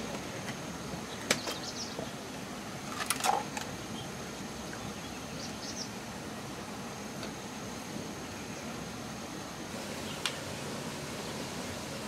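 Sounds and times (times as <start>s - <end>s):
stream flowing: 1.8s - 12.0s.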